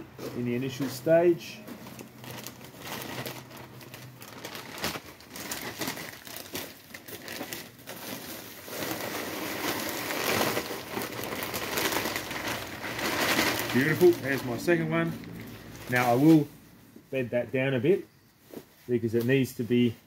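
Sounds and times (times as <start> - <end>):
plastic bag crinkling: 0.3 - 16.5.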